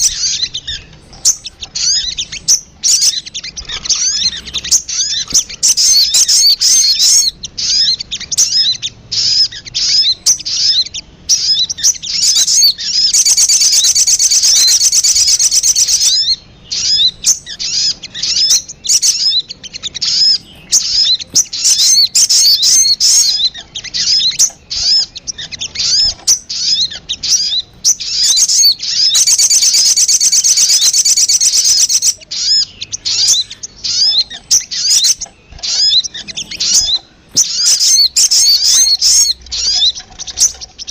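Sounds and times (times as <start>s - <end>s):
bird trill: 0.0s - 40.9s
sunbird chirping: 0.0s - 40.9s.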